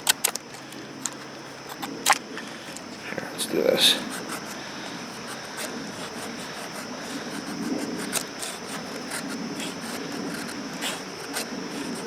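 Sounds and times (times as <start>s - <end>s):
knife scraping wood: 0.0s - 3.1s, 4.0s - 12.0s.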